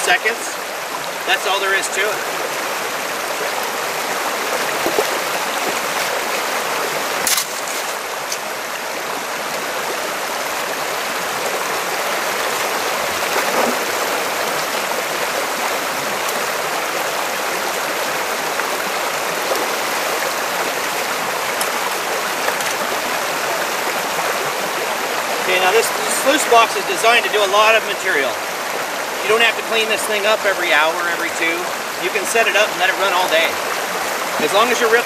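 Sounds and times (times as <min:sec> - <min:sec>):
stream water rushing: 0:00.0 - 0:35.0.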